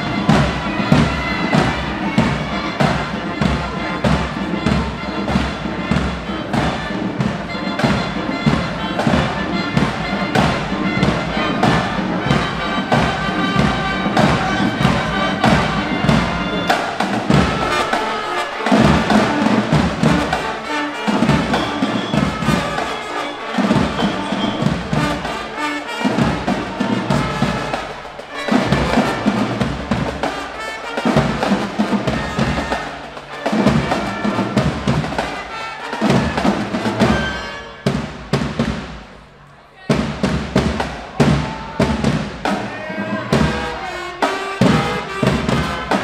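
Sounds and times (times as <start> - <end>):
marching band playing: 0.0 - 46.0.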